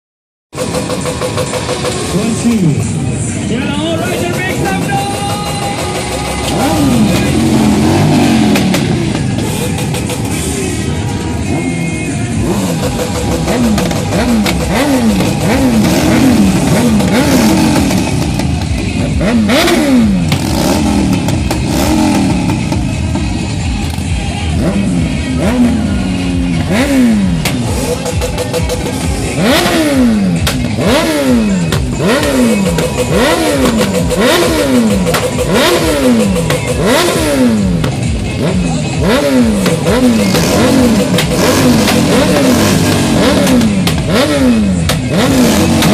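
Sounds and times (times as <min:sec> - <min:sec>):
motorcycle engines revving: 0:00.5 - 0:45.9.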